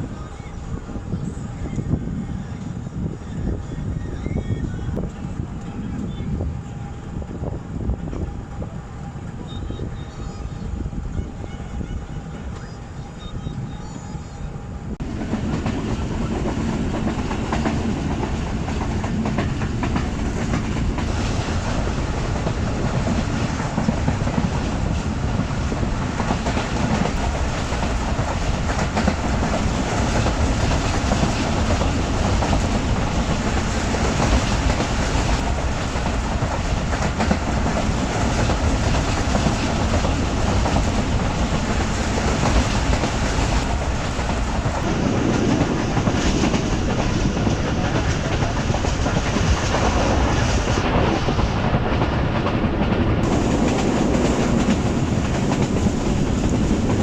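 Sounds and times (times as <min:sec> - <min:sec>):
train coach rumble and rattle: 0:00.0 - 0:57.0.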